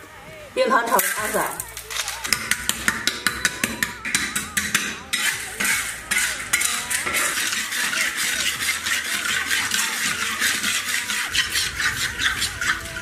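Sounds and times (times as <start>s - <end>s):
sugar sizzling in hot oil: 0.8s - 3.4s, 4.7s - 13.0s
spatula scraping a wok: 1.0s - 13.0s.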